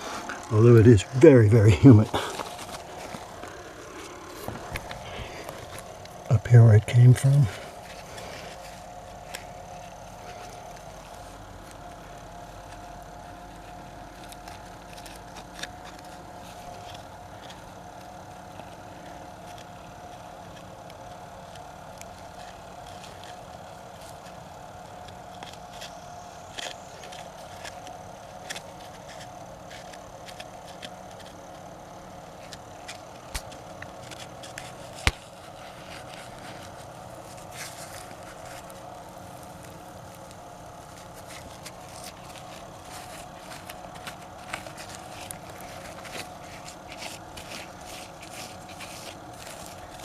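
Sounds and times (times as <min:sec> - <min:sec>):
digging in rocky ground: 0:00.0 - 0:50.0
faint steady hum: 0:00.0 - 0:50.0.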